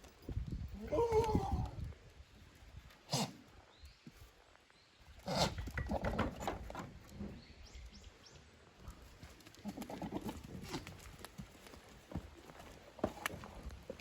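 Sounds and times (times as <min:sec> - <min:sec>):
hooves clattering and knocks: 0:00.0 - 0:03.1, 0:05.2 - 0:14.0.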